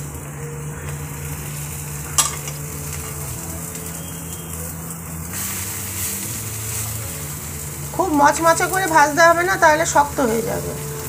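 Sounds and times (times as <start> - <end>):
low steady hum: 0.0 - 11.0
meat sizzling in butter: 0.0 - 11.0.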